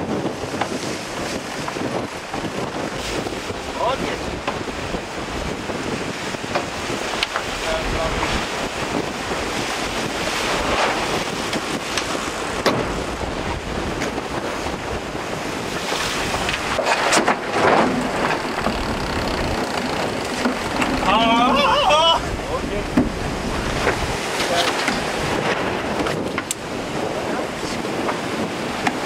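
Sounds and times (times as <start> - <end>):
water rushing past hull: 0.0 - 29.0
wind buffeting microphone: 0.0 - 29.0.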